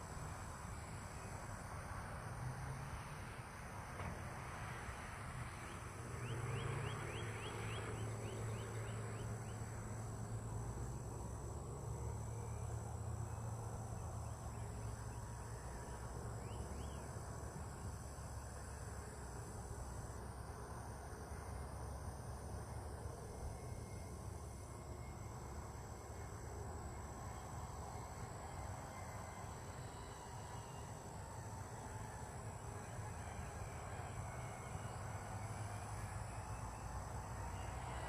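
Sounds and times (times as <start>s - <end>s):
insects trilling: 5.6s - 38.0s.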